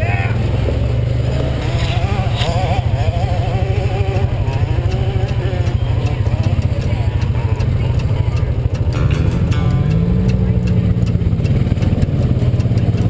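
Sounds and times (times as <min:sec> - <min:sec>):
atv engine rumbling: 0:00.0 - 0:13.0.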